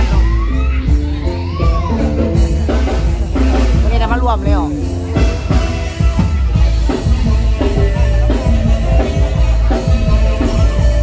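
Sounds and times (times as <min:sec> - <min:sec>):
drum kit beat: 0:00.0 - 0:11.0
loud band music: 0:00.0 - 0:11.0.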